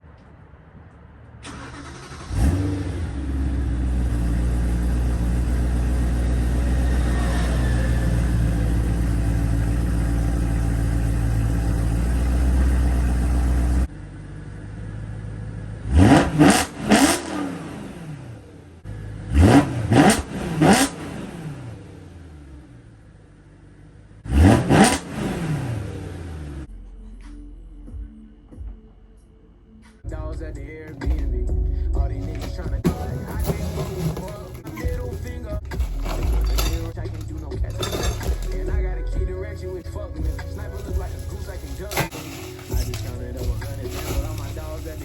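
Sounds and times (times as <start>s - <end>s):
car engine starting and idling: 0.1s - 27.0s, 28.8s - 45.0s.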